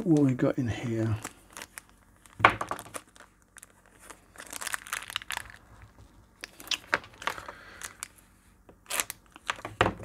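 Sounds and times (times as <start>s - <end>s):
plastic bag crinkling: 0.1s - 9.8s.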